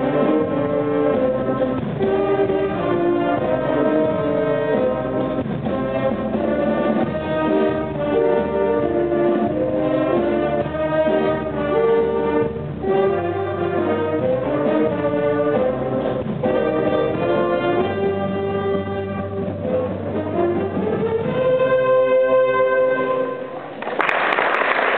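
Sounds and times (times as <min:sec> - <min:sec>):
jazz band playing: 0:00.0 - 0:23.6.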